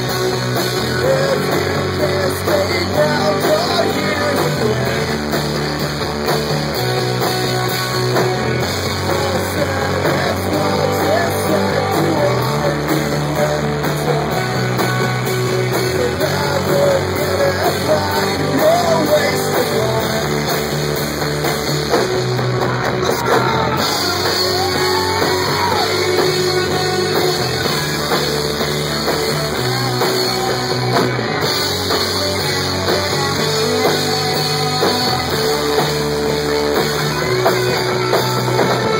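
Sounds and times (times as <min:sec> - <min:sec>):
person singing: 0:00.0 - 0:20.9, 0:21.9 - 0:38.9
drums: 0:00.0 - 0:38.9
electric guitar: 0:00.0 - 0:38.9.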